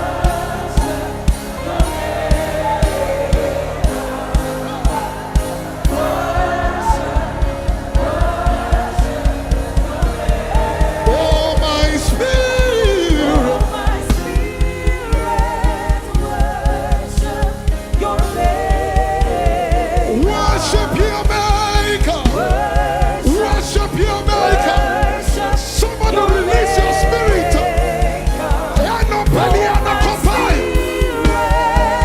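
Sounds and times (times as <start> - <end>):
band with low beat: 0.0 - 32.0
gospel singing: 0.0 - 32.0.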